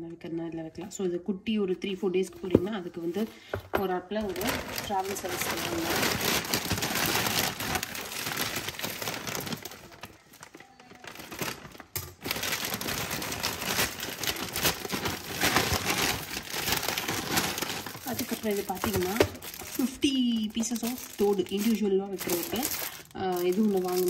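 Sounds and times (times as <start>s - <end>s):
plastic packaging crinkling: 4.1s - 24.0s.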